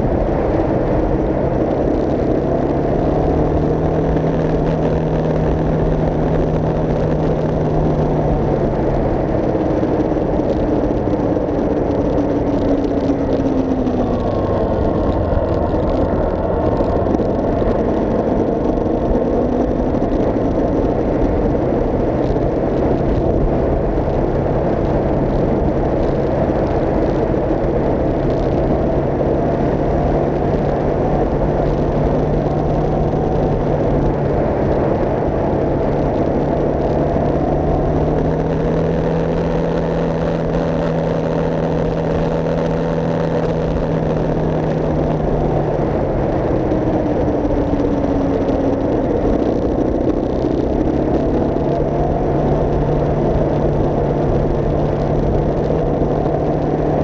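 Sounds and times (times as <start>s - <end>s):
road and wind noise: 0.0s - 57.0s
vehicle engine running: 0.0s - 57.0s.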